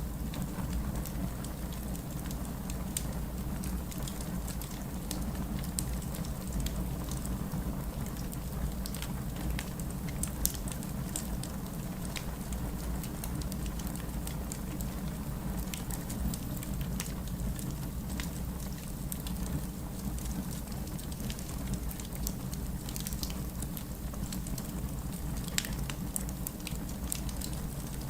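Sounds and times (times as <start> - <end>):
steady rain: 0.0 - 28.0
wood fire crackling: 0.0 - 28.0.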